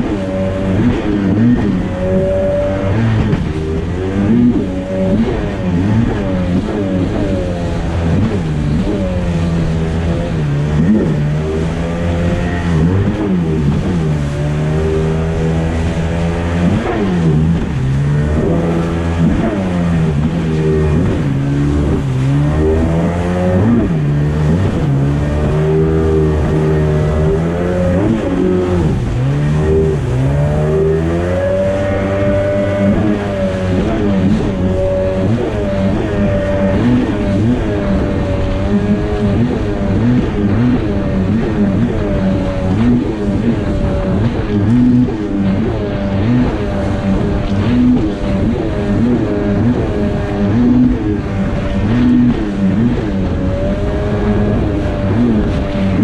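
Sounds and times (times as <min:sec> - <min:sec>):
jet ski engine revving: 0:00.0 - 0:56.0.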